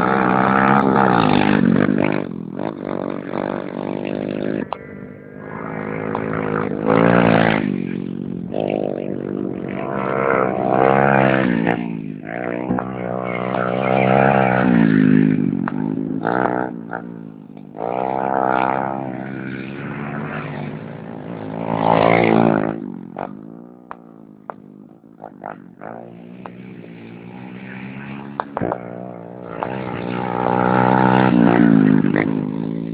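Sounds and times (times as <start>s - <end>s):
racing motorcycle engines revving: 0.0s - 32.9s.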